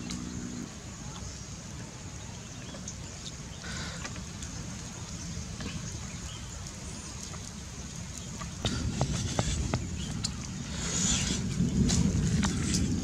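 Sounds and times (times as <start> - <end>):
campfire crackling: 0.0 - 13.0
steady low rumble: 0.0 - 13.0.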